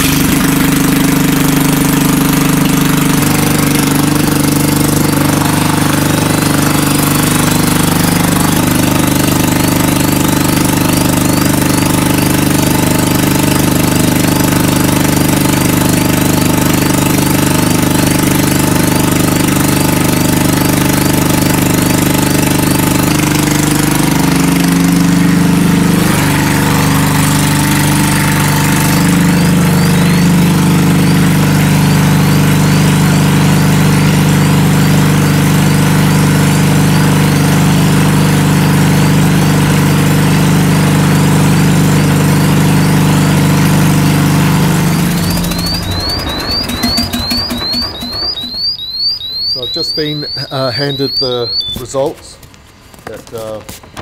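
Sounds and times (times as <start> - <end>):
generator engine running: 0.0 - 53.9.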